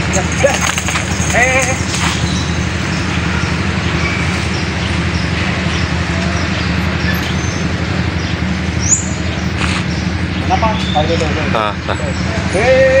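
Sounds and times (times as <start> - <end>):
heavy low rumble: 0.0 - 13.0.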